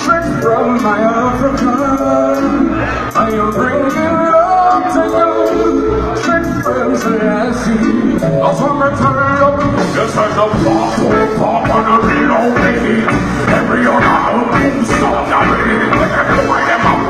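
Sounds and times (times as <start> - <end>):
live band with singer: 0.0 - 17.0.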